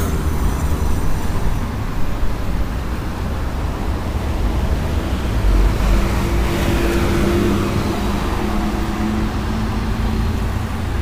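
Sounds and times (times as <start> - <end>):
vehicles passing on road: 0.0 - 11.0.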